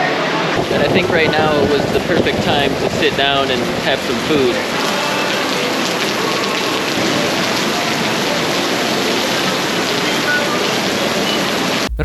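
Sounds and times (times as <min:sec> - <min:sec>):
heavy rain pouring: 0:00.4 - 0:12.0.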